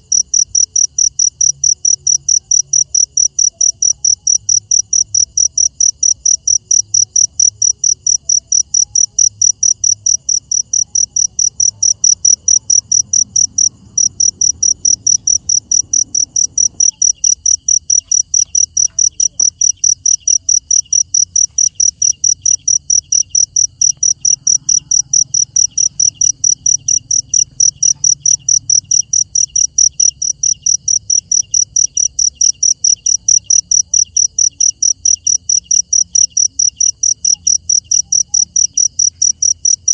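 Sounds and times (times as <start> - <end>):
faint lower insect chirping: 0.0 - 39.9
high-pitched insect chirping: 0.0 - 39.9.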